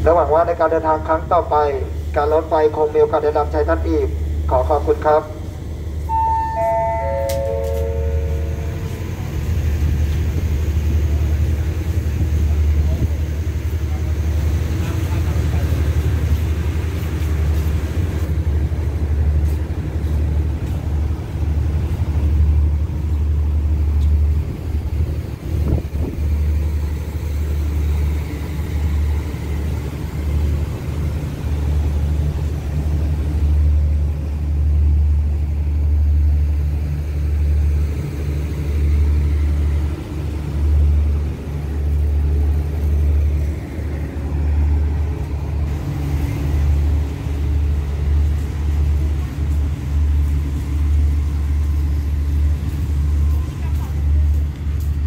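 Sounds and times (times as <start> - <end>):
locomotive engine rumbling: 0.0 - 55.0.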